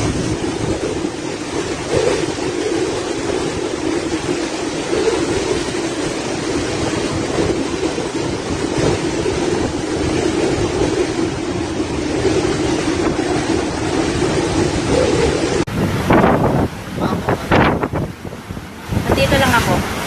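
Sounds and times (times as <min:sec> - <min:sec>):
rushing wind and water: 0:00.0 - 0:20.0.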